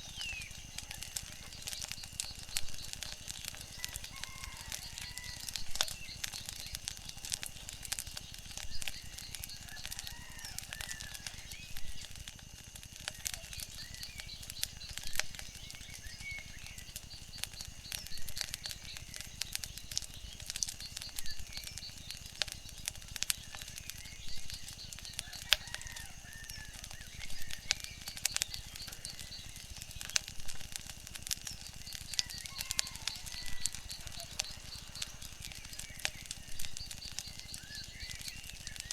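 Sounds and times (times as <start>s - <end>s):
faint chirping calls: 0.0s - 12.2s, 13.0s - 38.9s
wood fire crackling: 0.0s - 38.9s.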